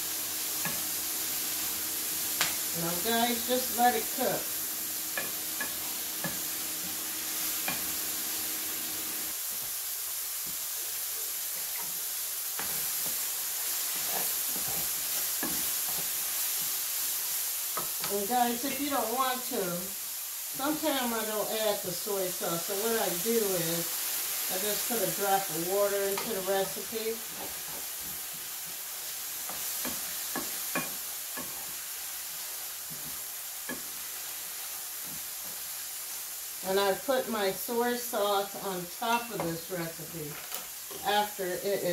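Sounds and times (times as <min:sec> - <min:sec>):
food sizzling in frying pan: 0:00.0 - 0:41.9.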